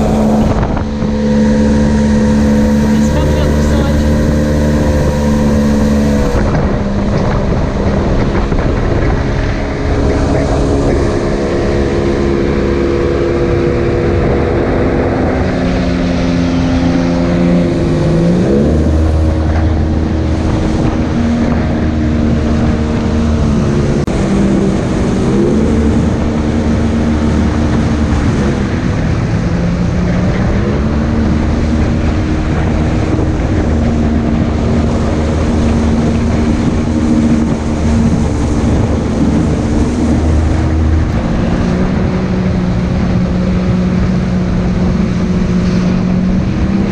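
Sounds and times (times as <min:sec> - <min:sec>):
jet boat engine revving: 0:00.0 - 0:46.9
rushing water: 0:00.0 - 0:46.9
wind: 0:00.0 - 0:46.9.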